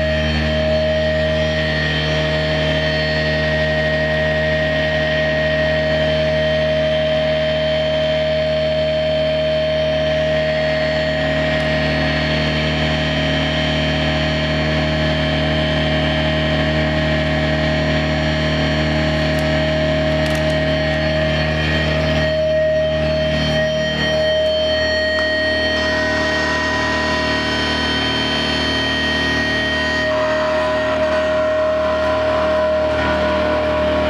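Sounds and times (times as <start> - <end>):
electric guitar feedback drone: 0.0 - 34.0.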